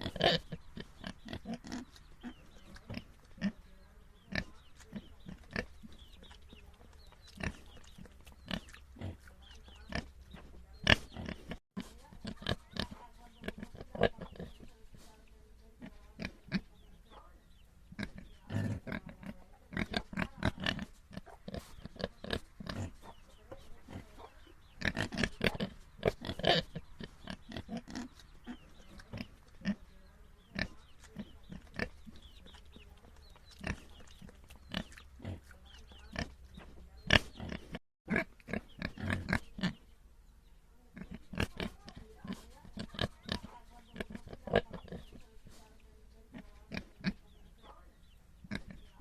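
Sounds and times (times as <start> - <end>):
pigs grunting: 0.0 - 6.3, 7.0 - 15.2, 17.9 - 39.8, 41.0 - 45.2.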